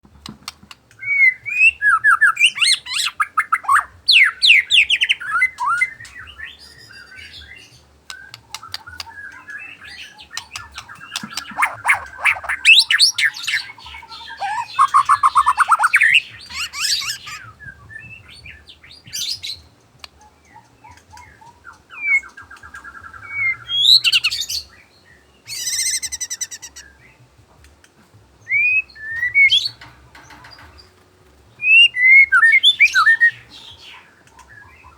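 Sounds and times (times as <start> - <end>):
songbird singing whistles and trills: 0.8 - 34.9.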